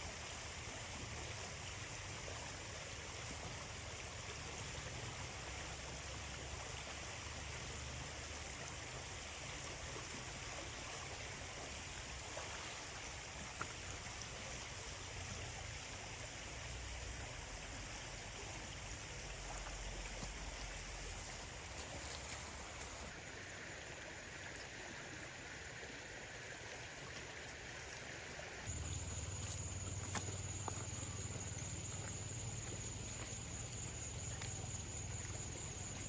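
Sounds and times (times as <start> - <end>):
rushing noise like running water: 0.0 - 36.0.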